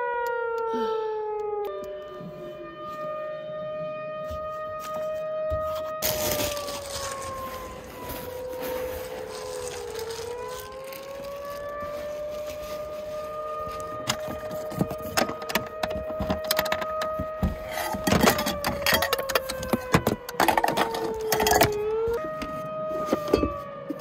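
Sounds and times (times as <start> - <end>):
tornado warning siren wailing: 0.0 - 24.0.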